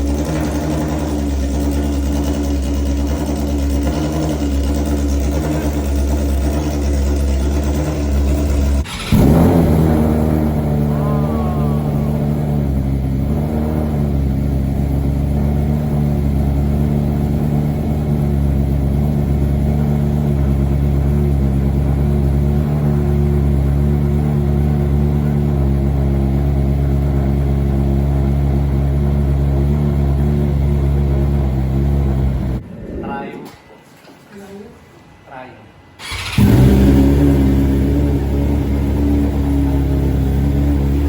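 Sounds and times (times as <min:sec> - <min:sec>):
motorcycle exhaust at steady speed: 0:00.0 - 0:32.6, 0:36.1 - 0:41.0.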